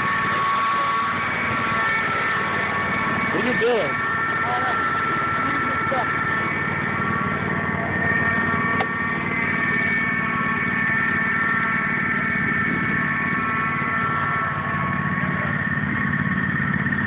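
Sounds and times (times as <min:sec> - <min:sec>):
lawn tractor engine idling: 0:00.0 - 0:17.0.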